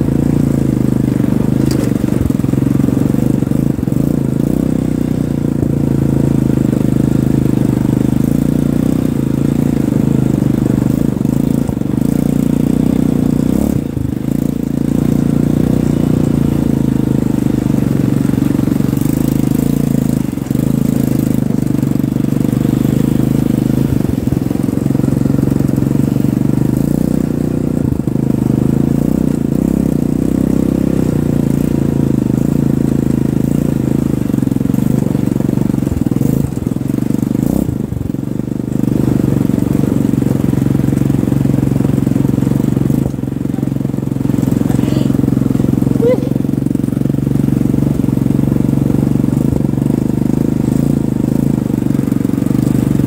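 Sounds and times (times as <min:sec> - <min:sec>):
quad bike engine drone: 0:00.0 - 0:53.0.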